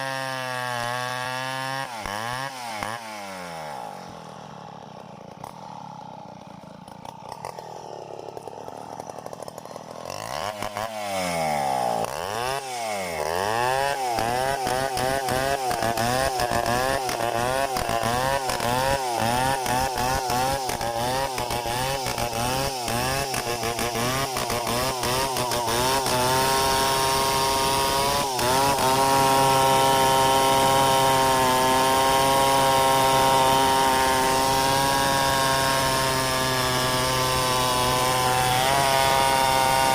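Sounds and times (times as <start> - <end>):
chainsaw engine cutting: 0.0 - 39.9.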